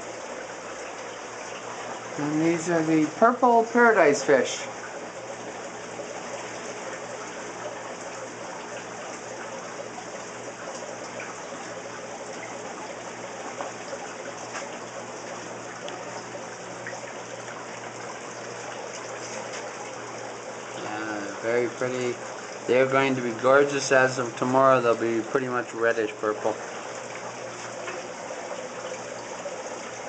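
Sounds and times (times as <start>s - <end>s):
running trickling water: 0.0s - 30.0s.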